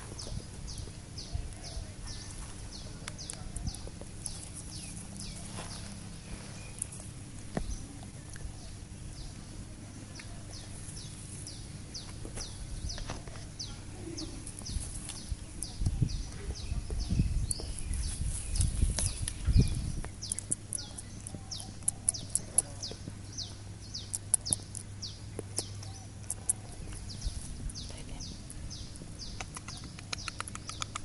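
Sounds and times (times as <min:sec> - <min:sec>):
bird chirping: 0:00.0 - 0:31.0
low steady hum: 0:00.0 - 0:31.0.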